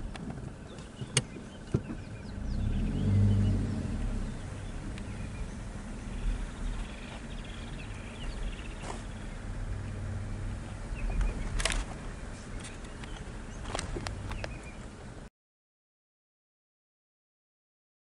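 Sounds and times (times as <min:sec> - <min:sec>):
vehicle engine idling: 0:00.0 - 0:15.3
small birds chirping: 0:00.4 - 0:15.2.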